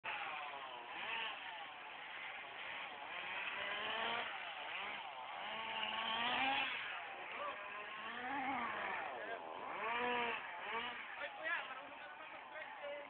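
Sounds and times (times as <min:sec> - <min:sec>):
toy car motor whining: 0:00.1 - 0:13.0.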